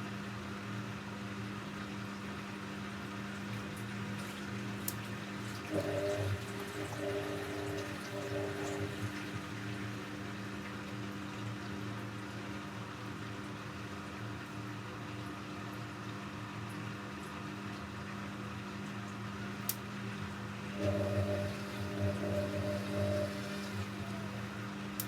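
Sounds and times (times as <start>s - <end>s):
pump motor hum: 1.3s - 25.0s
water rushing in washing machine: 1.6s - 25.0s.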